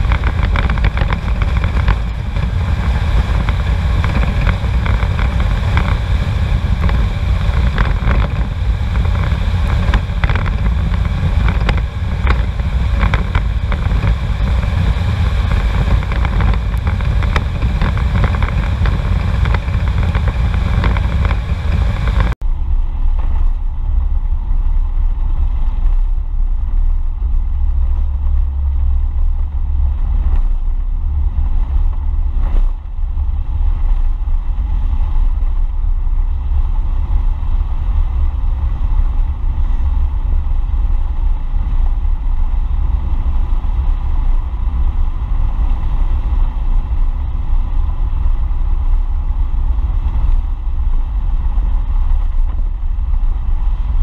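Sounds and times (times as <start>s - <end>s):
car road and engine noise: 0.0s - 54.0s
wind rumble on microphone: 0.0s - 54.0s.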